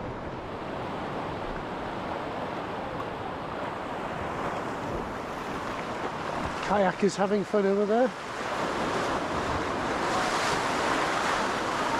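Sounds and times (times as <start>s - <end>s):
waves washing over rocks: 0.0s - 11.9s.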